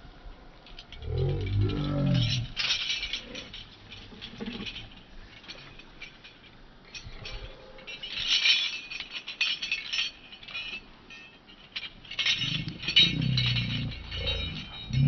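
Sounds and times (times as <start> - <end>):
metal chain clinking and rattling: 0.6 - 15.0.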